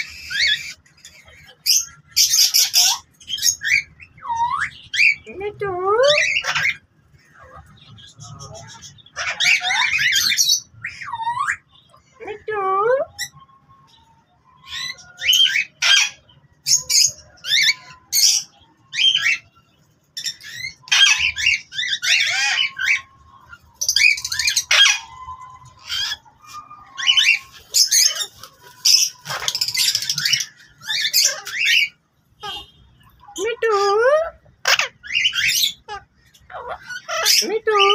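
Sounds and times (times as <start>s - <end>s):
parrots squawking and screeching: 0.0s - 37.9s.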